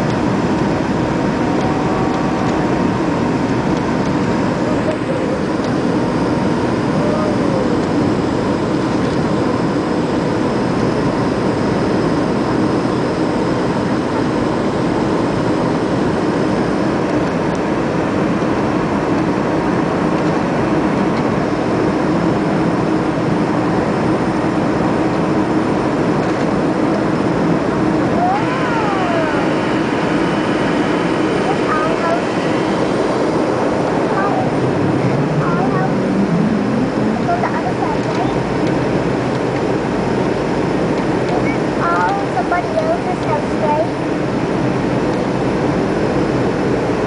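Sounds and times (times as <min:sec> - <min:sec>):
jet engine noise: 0:00.0 - 0:47.0.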